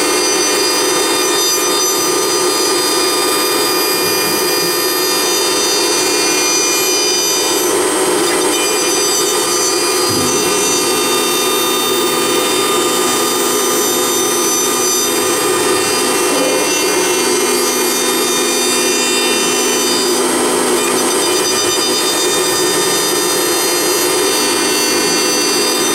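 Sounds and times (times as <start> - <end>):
cutter rasping in wood: 0.0 - 25.9
lower machine tone: 0.0 - 25.9
router spindle whining: 0.0 - 25.9.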